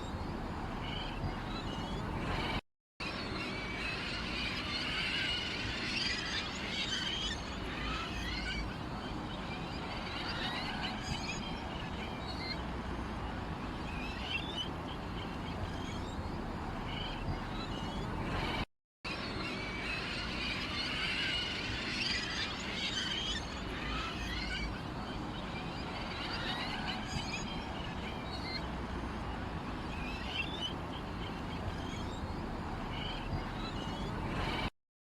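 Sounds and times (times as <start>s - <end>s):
small birds chirping: 0.0s - 2.6s, 3.2s - 18.6s, 19.3s - 34.7s.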